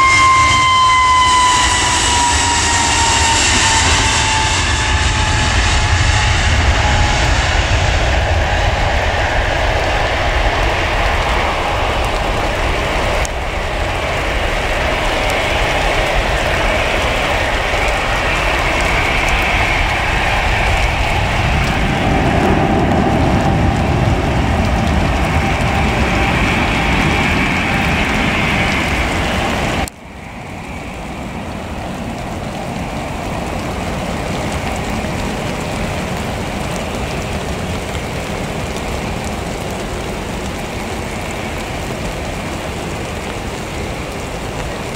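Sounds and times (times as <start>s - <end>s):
jet engines at takeoff: 0.0s - 44.9s.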